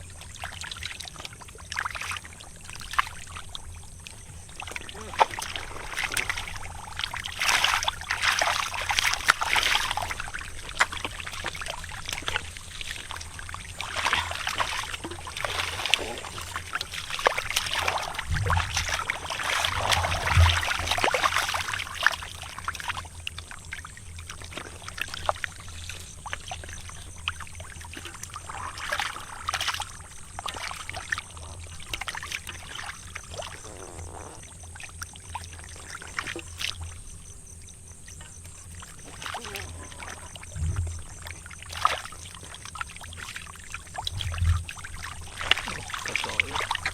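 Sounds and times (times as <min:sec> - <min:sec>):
low steady hum: 0:00.0 - 0:46.9
muddy water splashing and sloshing: 0:00.0 - 0:46.9
small wet crackles: 0:00.0 - 0:46.9.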